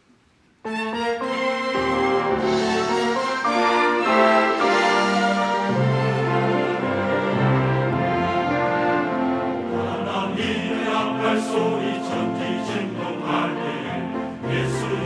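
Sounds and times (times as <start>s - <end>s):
string orchestra playing: 0.7s - 15.0s
choir singing a hymn: 1.9s - 15.0s.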